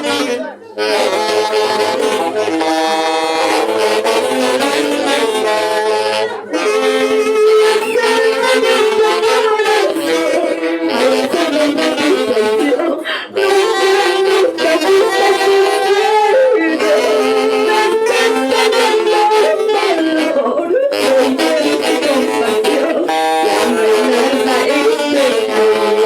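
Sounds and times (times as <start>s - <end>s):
orchestra with saxophone melody: 0.0s - 26.0s.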